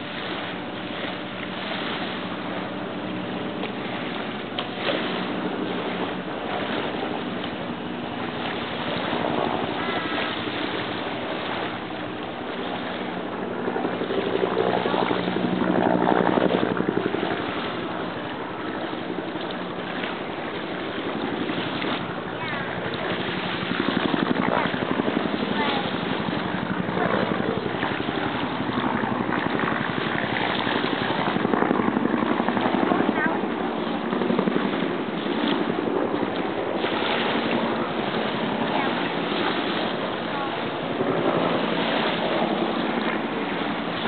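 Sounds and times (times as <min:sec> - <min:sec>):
wind or water noise: 0:00.0 - 0:44.0.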